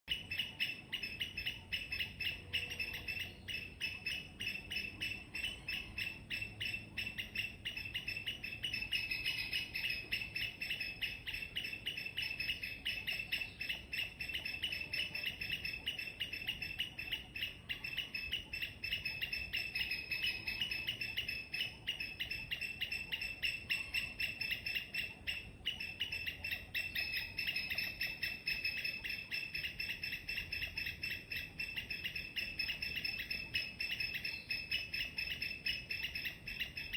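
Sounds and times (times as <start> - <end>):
squirrel chirping: 0.1 - 36.9.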